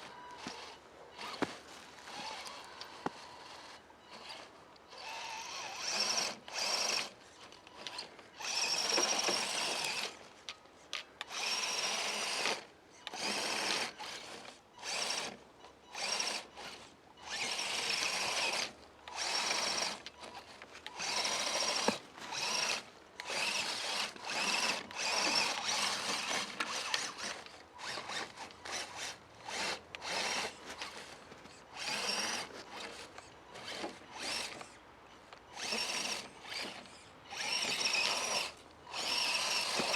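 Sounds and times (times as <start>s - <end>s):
rc car electric motor whine: 0.0s - 10.2s, 11.2s - 34.8s, 35.5s - 39.9s.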